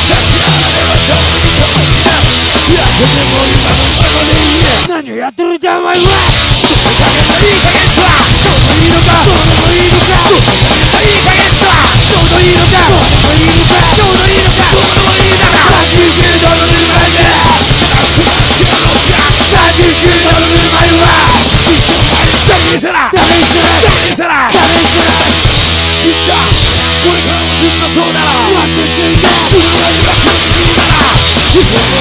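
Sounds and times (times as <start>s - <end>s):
bass: 0.0s - 4.9s, 6.0s - 32.0s
distorted guitars: 0.0s - 5.2s, 5.8s - 32.0s
drums: 0.0s - 32.0s
hardcore punk song: 0.0s - 32.0s.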